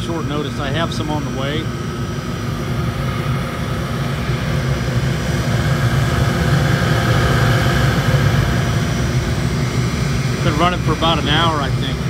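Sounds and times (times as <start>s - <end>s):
furnace burner roaring: 0.0s - 12.0s.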